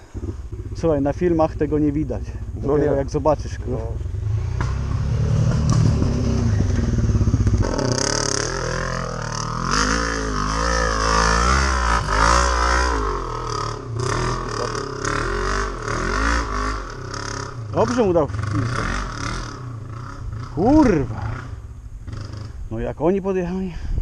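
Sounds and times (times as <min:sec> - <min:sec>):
atv engine revving: 0:00.0 - 0:22.9
engine idling with low hum: 0:00.0 - 0:24.0.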